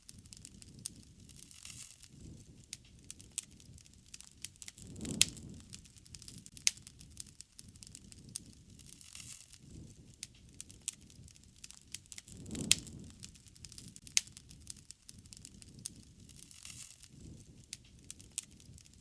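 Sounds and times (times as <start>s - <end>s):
low rumble of flame: 0.0s - 19.0s
wood fire crackling and popping: 0.0s - 19.0s.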